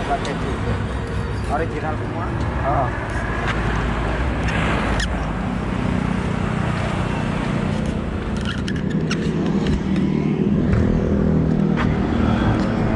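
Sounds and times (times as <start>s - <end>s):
road traffic: 0.0s - 12.9s
vehicle engine humming: 0.0s - 12.9s.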